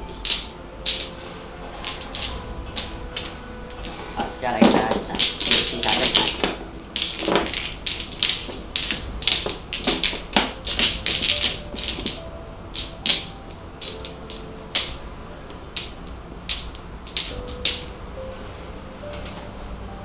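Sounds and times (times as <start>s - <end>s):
mahjong tiles clacking: 0.0s - 20.0s.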